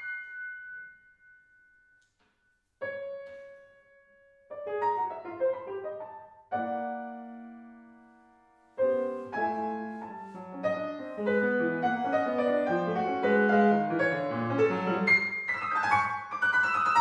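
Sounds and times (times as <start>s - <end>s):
grand piano playing: 2.8s - 17.0s.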